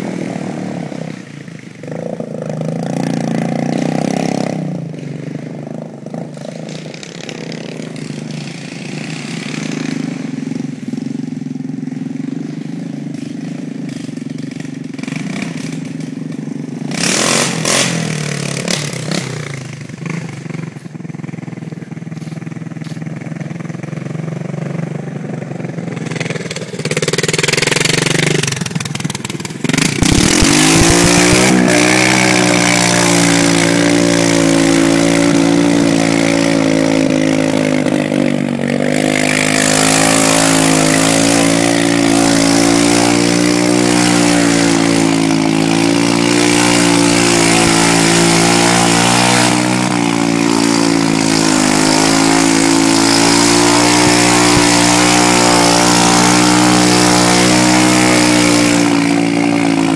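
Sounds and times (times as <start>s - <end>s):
engine running hard: 0.0s - 59.9s.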